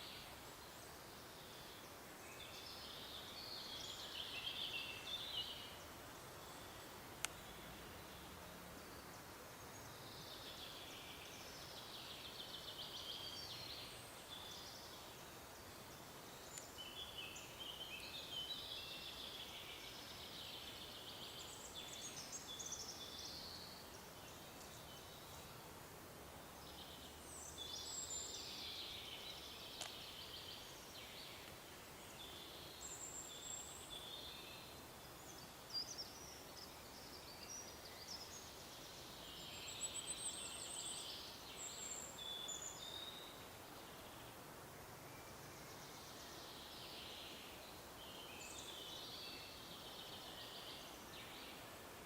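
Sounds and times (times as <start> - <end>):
forest ambience hiss: 0.0 - 52.0
songbirds singing: 0.0 - 52.0.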